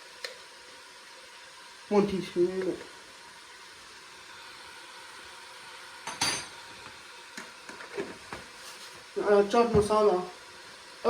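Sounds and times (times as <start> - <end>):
onions frying in pot: 0.0 - 11.0.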